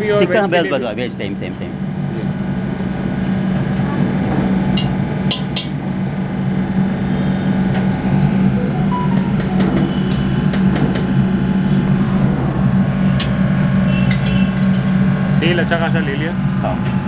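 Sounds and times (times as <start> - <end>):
kitchen machine hum: 0.0 - 17.0.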